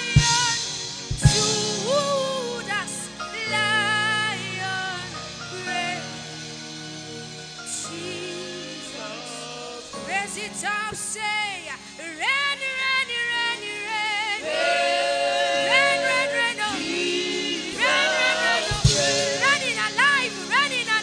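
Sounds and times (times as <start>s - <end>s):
woman singing gospel song: 0.0s - 6.2s, 7.7s - 21.0s
instrumental backing: 0.0s - 14.8s, 15.4s - 21.0s.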